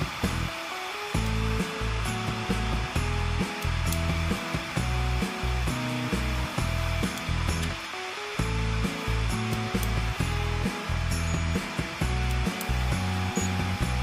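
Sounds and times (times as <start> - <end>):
constant rushing hiss: 0.0 - 14.0
music with rhythmic bass line: 0.0 - 14.0.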